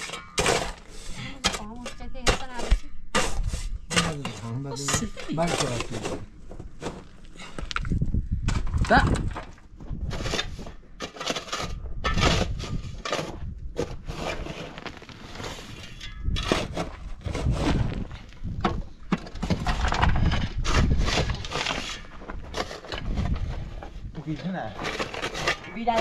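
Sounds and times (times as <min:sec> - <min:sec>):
shovel scraping stony soil: 0:00.0 - 0:09.0, 0:09.9 - 0:26.0.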